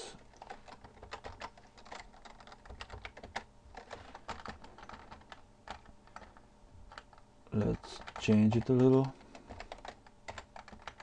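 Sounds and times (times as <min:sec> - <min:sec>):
computer keyboard typing: 0:00.2 - 0:11.0.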